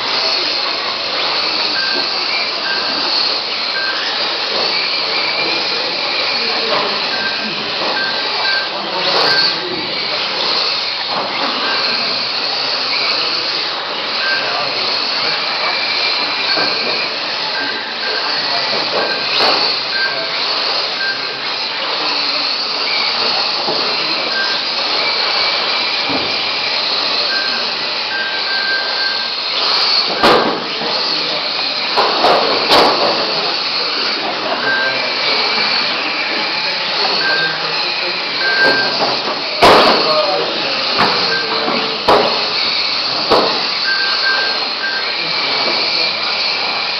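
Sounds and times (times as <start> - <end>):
electric toy race cars whining: 0.0 - 46.9.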